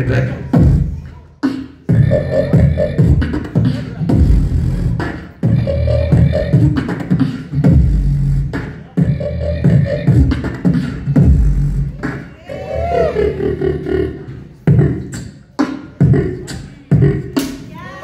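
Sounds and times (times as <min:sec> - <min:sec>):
person beatboxing: 0:00.0 - 0:17.7.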